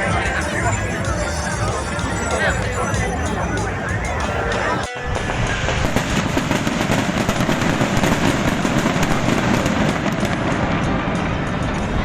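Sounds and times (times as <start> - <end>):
fireworks crackling bangs: 0.0 - 12.0.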